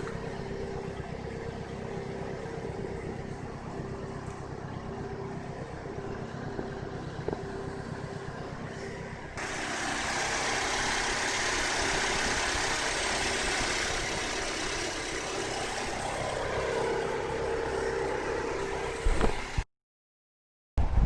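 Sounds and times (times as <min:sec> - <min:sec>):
car engine running: 0:00.0 - 0:19.6.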